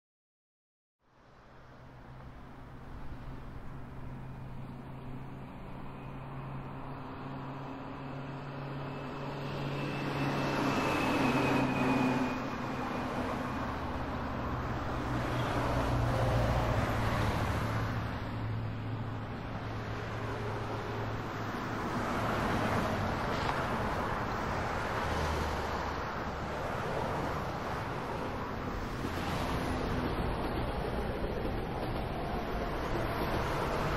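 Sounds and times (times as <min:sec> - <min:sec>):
tyre and road noise: 0:01.9 - 0:33.9.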